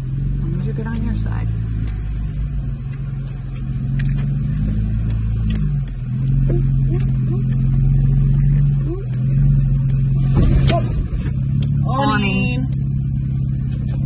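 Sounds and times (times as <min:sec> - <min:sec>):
car engine running at low speed: 0:00.0 - 0:14.0.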